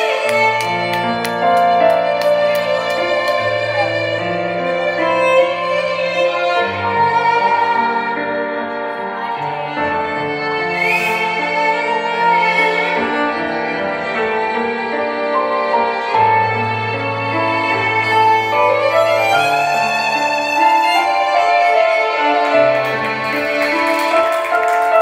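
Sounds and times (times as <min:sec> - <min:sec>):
slow violin music: 0:00.0 - 0:25.0.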